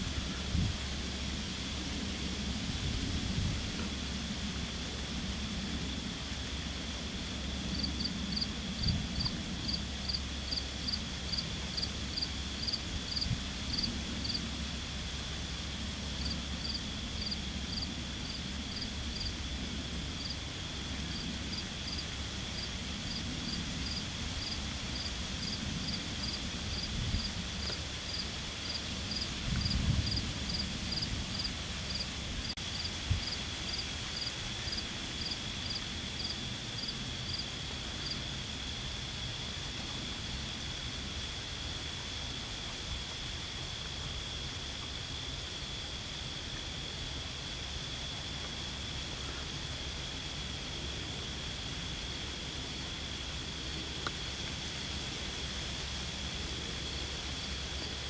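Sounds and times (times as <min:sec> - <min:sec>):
crickets chirping: 0:00.0 - 0:58.0
high insect trill: 0:04.3 - 0:58.0.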